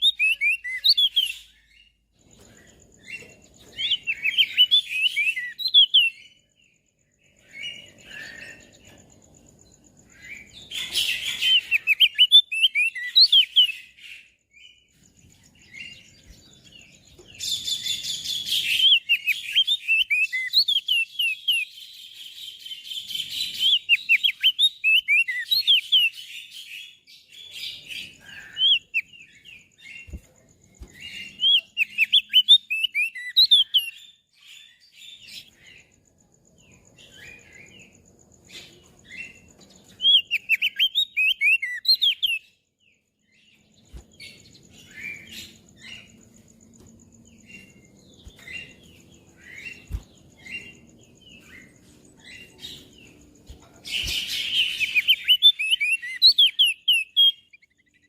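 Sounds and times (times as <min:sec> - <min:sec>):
bird singing high chirps: 0:00.0 - 0:58.0.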